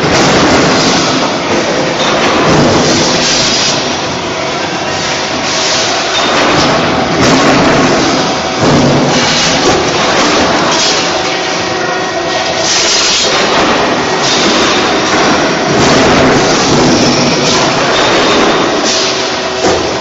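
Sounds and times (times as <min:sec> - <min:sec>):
production-line machinery running: 0:00.0 - 0:20.0.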